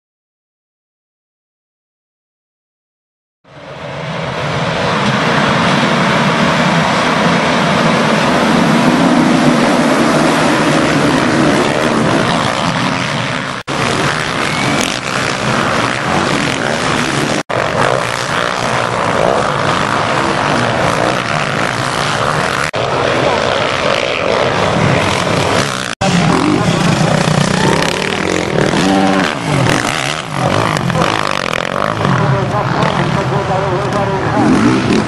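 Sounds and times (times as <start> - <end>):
motocross bikes racing: 3.5 - 35.0.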